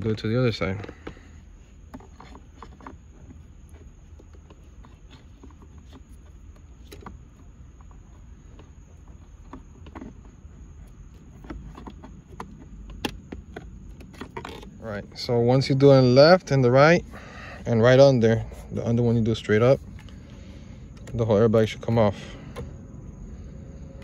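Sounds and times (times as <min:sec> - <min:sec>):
low handling rumble: 0:00.0 - 0:24.0.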